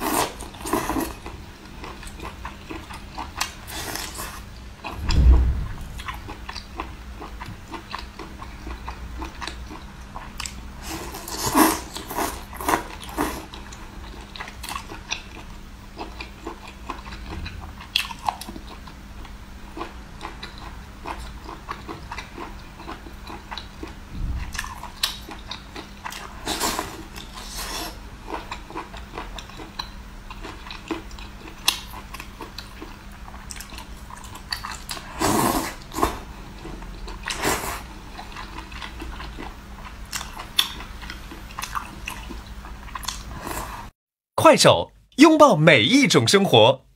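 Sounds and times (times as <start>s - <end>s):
person chewing: 0.0s - 5.0s, 6.0s - 43.8s.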